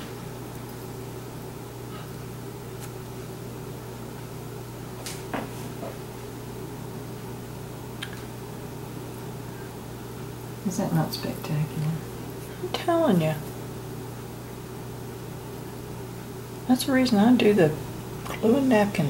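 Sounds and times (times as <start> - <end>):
appliance humming: 0.0 - 19.0.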